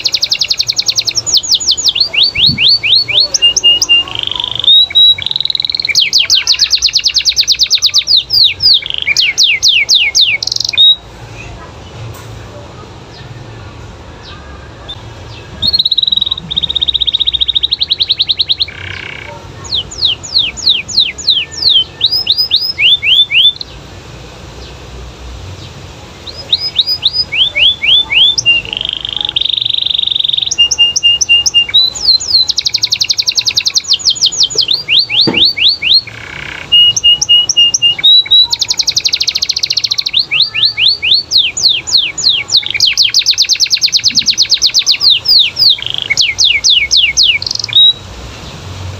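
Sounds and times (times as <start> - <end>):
canary singing: 0.0 - 11.6, 14.1 - 23.9, 25.5 - 48.8.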